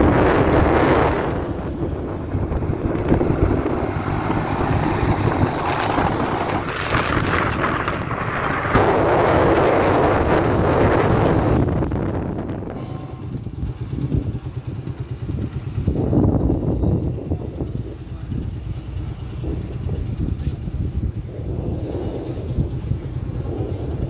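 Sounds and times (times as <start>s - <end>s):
motorcycle engine: 0.0s - 24.0s
road noise: 0.0s - 24.0s
wind buffeting microphone: 0.0s - 24.0s.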